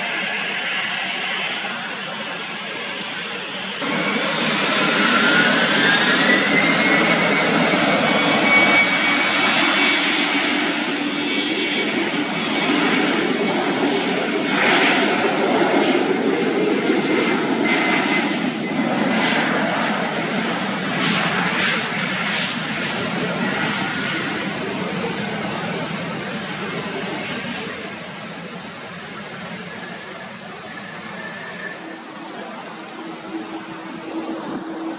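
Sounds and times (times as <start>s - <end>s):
jet engine whine: 0.0s - 34.9s
loud jet engine roar: 0.0s - 34.9s.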